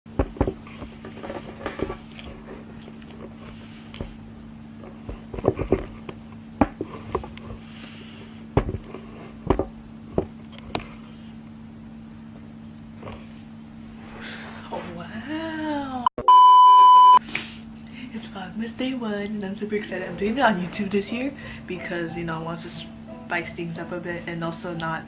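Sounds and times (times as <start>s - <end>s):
steady low hum: 0.1s - 25.0s.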